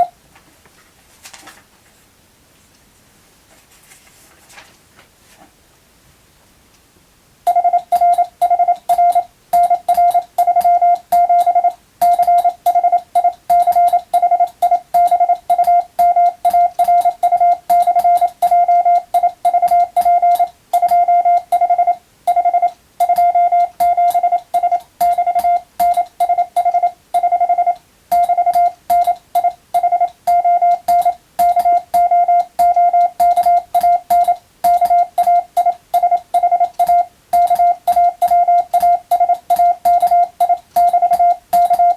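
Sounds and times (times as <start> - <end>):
morse code beeps: 7.5 - 41.9.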